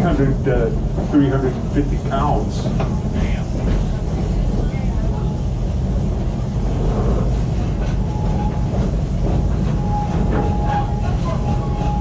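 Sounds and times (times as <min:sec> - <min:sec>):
train cars rumbling on track: 0:00.0 - 0:12.0.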